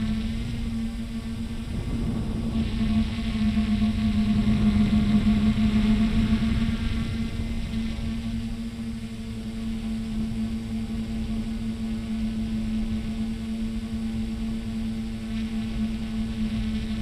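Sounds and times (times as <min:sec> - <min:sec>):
drone propellers humming: 0:00.0 - 0:17.0
low rumble of wind: 0:00.0 - 0:17.0.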